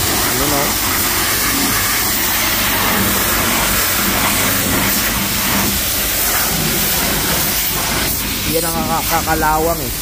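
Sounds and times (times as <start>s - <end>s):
pressure washer water spray hissing: 0.0s - 10.0s.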